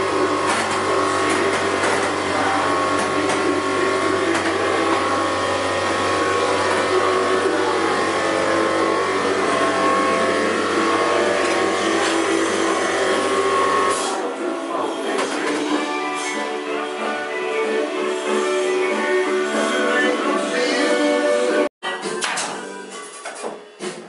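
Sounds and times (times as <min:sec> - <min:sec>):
machine drone: 0:00.0 - 0:19.9.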